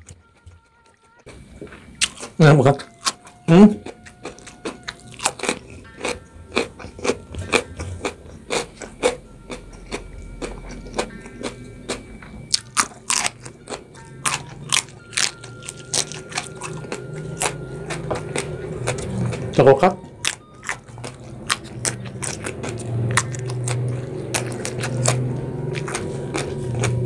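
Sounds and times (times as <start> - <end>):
crunchy chewing: 0.0 - 27.0.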